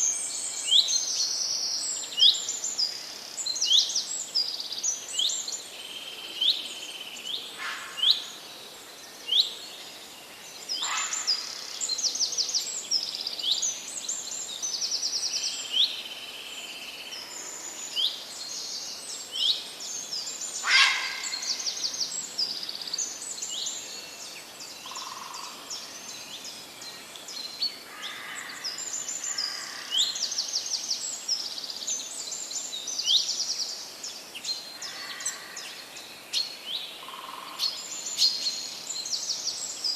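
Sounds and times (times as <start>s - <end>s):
songbirds singing and calling: 0.0s - 39.9s
steady background hiss: 0.0s - 39.9s.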